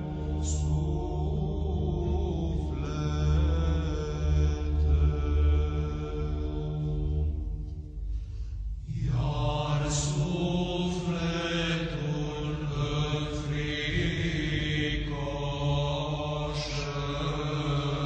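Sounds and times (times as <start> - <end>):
men chanting over a low drone: 0.0 - 8.1, 8.8 - 18.0.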